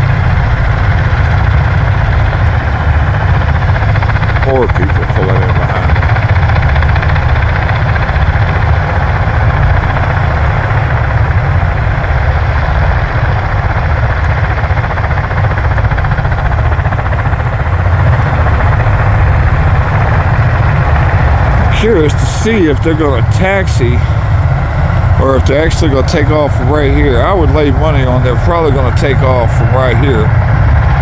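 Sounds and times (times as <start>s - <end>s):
tiltrotor aircraft engines droning: 0.0s - 31.0s.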